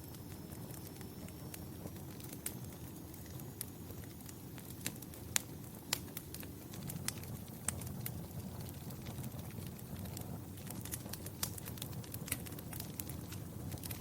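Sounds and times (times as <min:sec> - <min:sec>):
sharp pops from fire: 0:00.0 - 0:14.0
wood fire crackling: 0:00.0 - 0:14.0.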